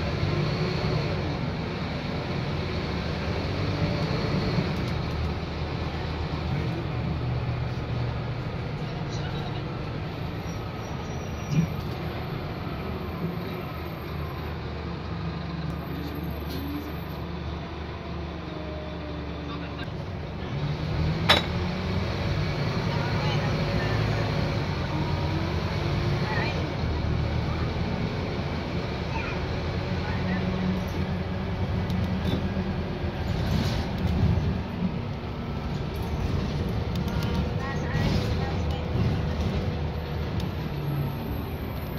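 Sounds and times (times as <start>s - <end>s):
bus engine running: 0.0s - 41.9s
road noise: 0.0s - 41.9s.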